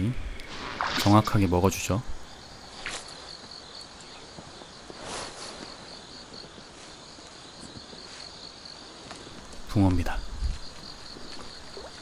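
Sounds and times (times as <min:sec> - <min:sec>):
insects chirping trill: 0:00.0 - 0:12.0.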